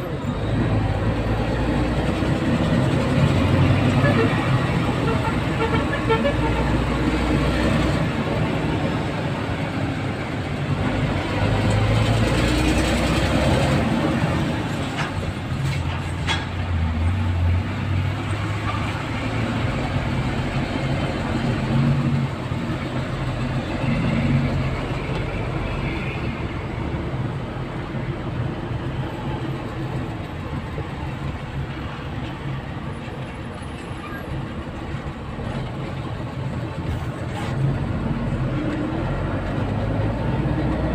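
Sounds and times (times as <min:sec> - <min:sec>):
heavy traffic rumble: 0:00.0 - 0:40.9
vehicle engine drone: 0:00.0 - 0:40.9.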